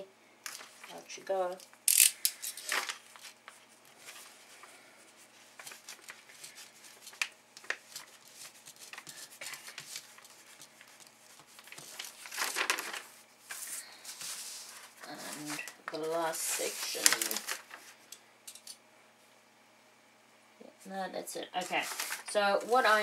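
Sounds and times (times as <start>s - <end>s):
plastic film crinkling: 0.5s - 4.7s, 5.3s - 18.1s, 21.6s - 23.0s.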